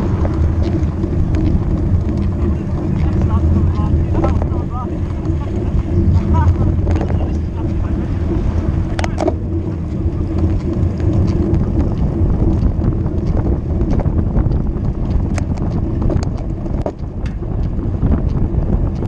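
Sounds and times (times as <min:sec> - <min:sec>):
road and tyre noise: 0:00.0 - 0:19.0
sharp clicks and rattles: 0:00.0 - 0:19.0
wind rumbling on microphone: 0:00.0 - 0:19.0.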